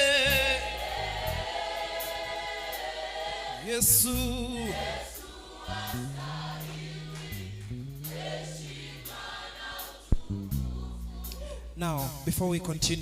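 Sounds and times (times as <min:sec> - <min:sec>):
held low chords: 0:00.0 - 0:02.7, 0:03.6 - 0:09.3, 0:10.1 - 0:13.0
choir singing softly: 0:00.0 - 0:11.8.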